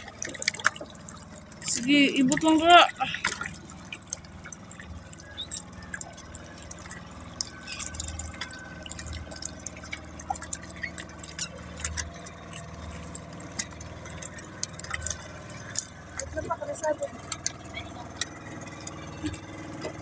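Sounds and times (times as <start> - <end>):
water lapping against boat: 0.0 - 20.0.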